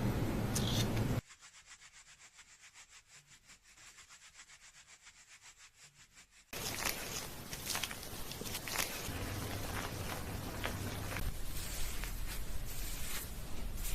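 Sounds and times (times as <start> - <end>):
fingers scrubbing hair: 1.2 - 13.9.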